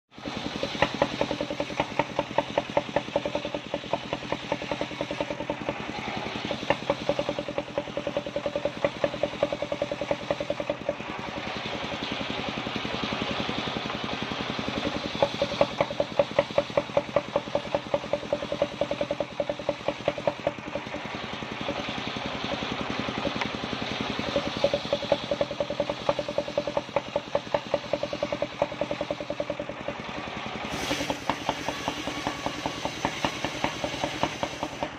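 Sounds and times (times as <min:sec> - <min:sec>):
saw blade cutting wood: 0:00.1 - 0:34.9
saw engine running: 0:00.1 - 0:34.9.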